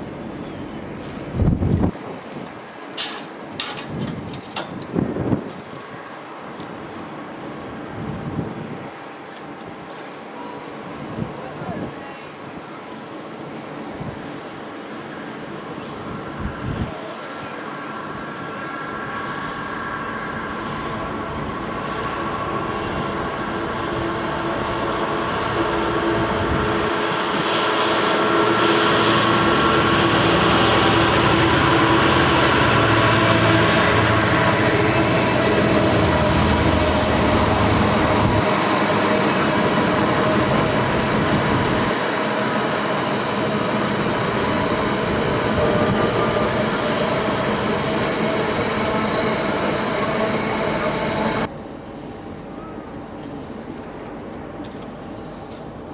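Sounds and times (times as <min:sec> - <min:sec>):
train wheels rumbling on rails: 0:00.0 - 0:12.0, 0:18.4 - 0:55.9
steady tones from train: 0:00.0 - 0:55.9.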